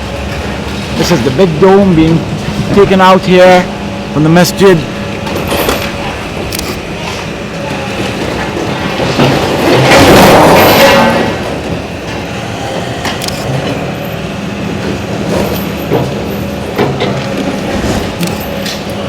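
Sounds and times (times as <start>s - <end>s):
steady engine hum: 0.0s - 19.0s.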